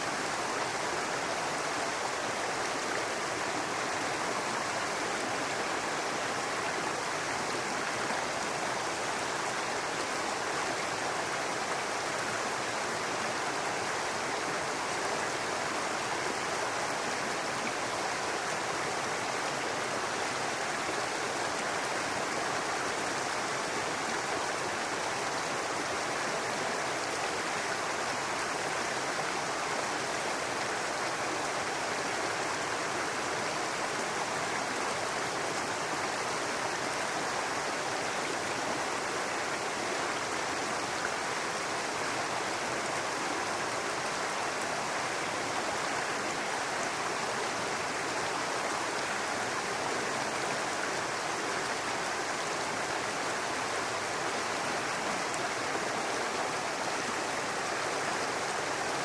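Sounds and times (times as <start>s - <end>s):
brook babbling over rocks: 0.0s - 59.0s.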